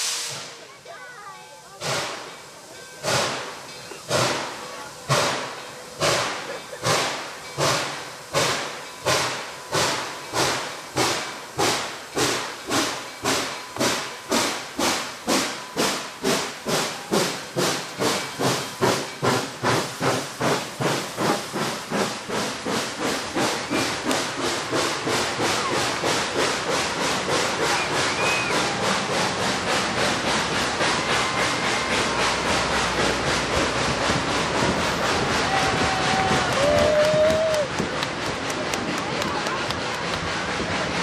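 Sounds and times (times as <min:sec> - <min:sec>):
steam locomotive exhaust chuffs: 0:00.0 - 0:41.0.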